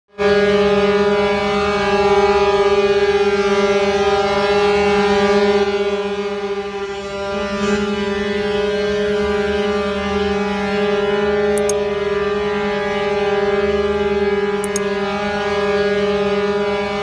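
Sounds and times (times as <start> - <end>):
ship's horn blast: 0.1 - 17.0.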